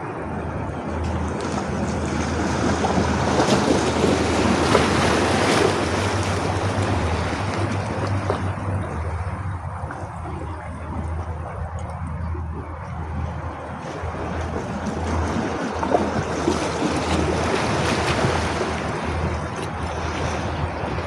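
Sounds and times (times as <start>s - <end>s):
sea waves washing in: 0.0s - 21.0s
steady low rumble: 0.0s - 21.0s.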